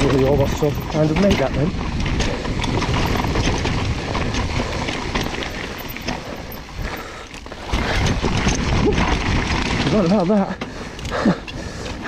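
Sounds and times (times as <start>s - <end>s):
bike rattling over bumps: 0.0s - 12.0s
bike tyres crunching over stones: 0.0s - 12.0s.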